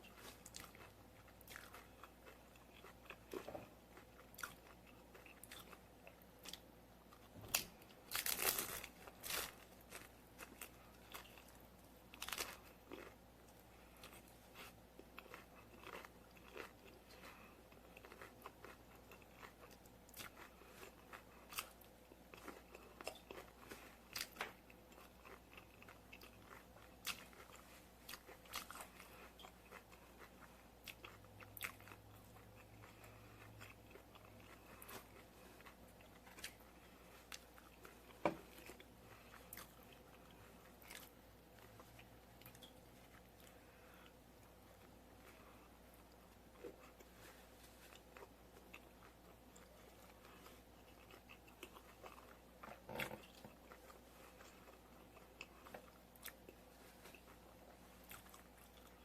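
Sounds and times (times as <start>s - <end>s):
crunchy tacos bitten and chewed: 0.0s - 59.0s.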